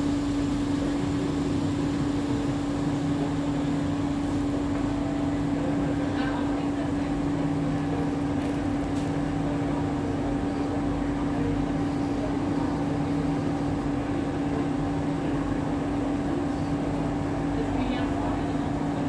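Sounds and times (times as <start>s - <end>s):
train equipment hum: 0.0s - 19.0s.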